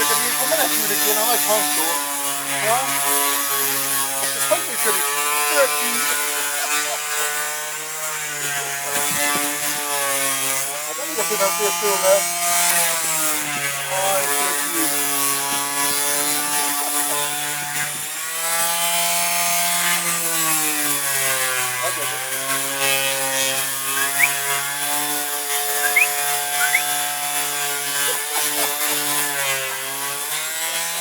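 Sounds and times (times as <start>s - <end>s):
electric power tool motor: 0.0s - 31.0s.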